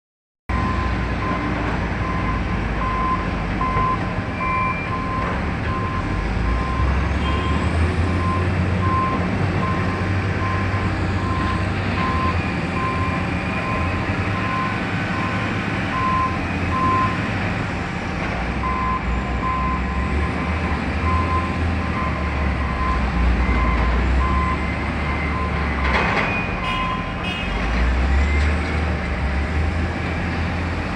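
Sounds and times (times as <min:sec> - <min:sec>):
reversing alarm beeping: 0:00.5 - 0:17.6, 0:18.6 - 0:28.6
heavy diesel engines revving: 0:00.5 - 0:30.9.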